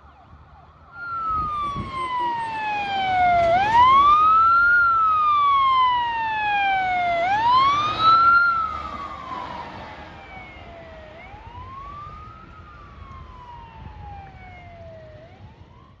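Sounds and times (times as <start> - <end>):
ambulance siren wailing: 0.0 - 16.0.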